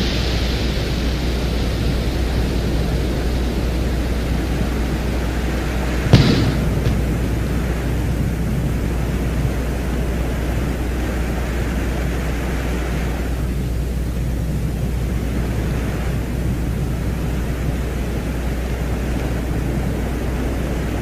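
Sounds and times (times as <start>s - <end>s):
even hiss: 0.0s - 21.0s
steady low rumble: 0.0s - 21.0s.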